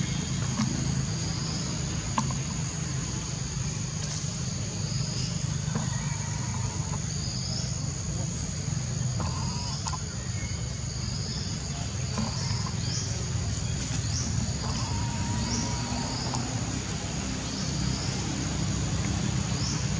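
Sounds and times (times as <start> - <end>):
low steady rumble: 0.0 - 19.9.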